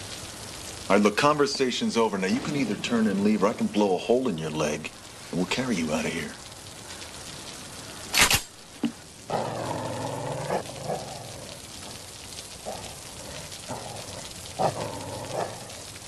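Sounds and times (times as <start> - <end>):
storm rain: 0.0 - 16.0.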